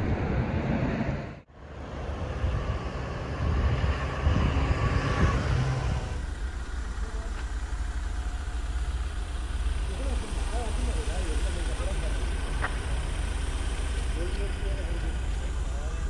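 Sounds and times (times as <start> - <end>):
motor vehicle running: 0.0 - 16.0.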